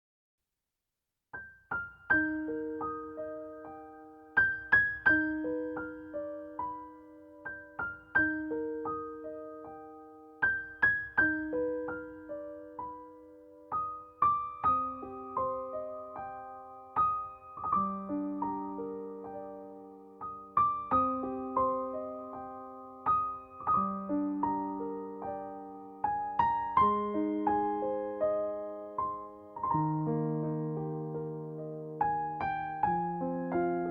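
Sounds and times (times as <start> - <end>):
calm solo piano music: 1.3 - 33.9.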